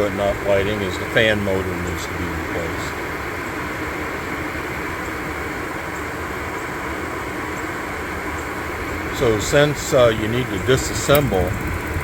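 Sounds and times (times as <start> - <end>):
furnace blower motor running: 0.0 - 12.0.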